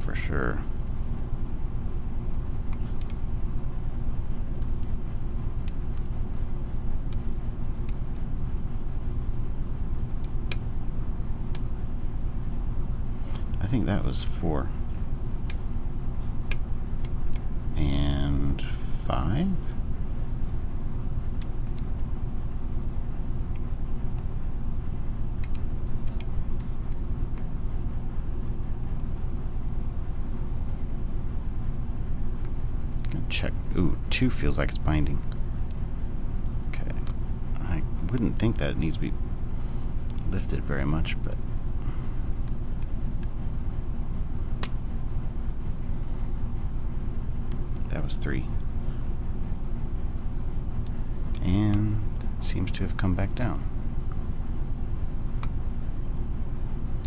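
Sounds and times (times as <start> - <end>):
low background rumble: 0.0 - 57.0.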